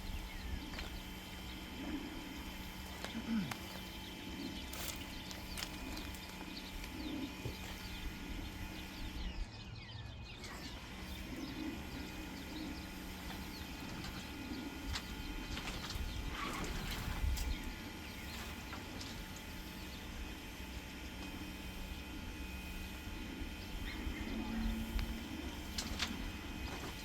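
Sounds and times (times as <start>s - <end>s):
birds chirping: 0.0s - 27.0s
faint low hum: 0.0s - 27.0s.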